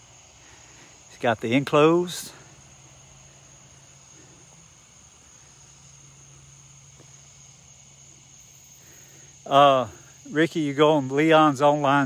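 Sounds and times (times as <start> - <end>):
insects trilling: 0.0 - 12.0
low steady hum: 0.0 - 12.0.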